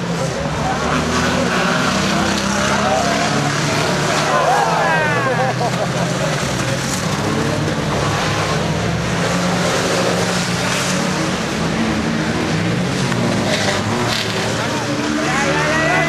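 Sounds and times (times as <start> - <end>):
racing car engines droning: 0.0 - 16.0.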